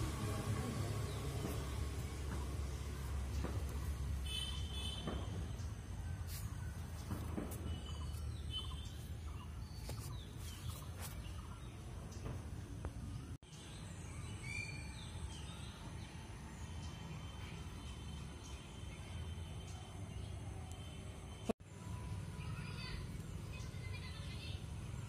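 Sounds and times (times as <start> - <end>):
birds chirping: 0.0 - 21.5.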